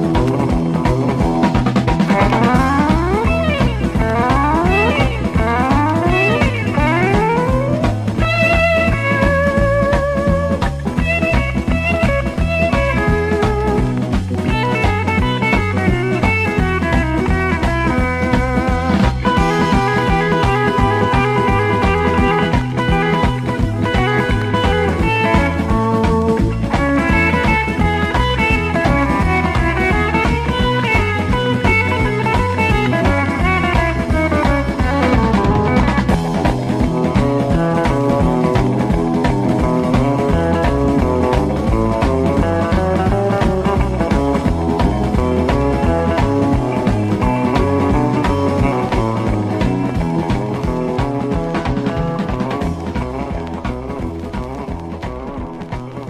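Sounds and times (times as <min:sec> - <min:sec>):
guitar rock music: 0:00.0 - 0:56.0.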